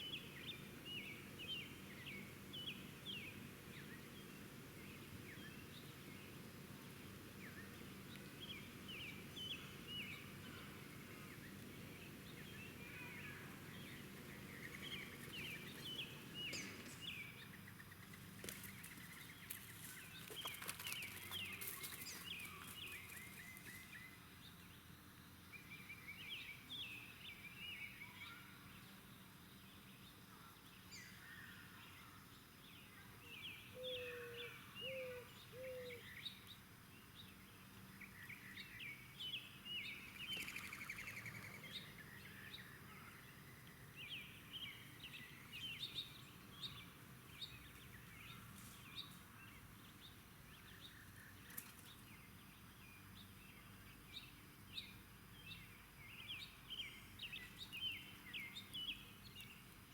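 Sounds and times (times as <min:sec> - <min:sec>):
small birds chirping: 0:00.0 - 0:24.9, 0:30.7 - 0:59.9.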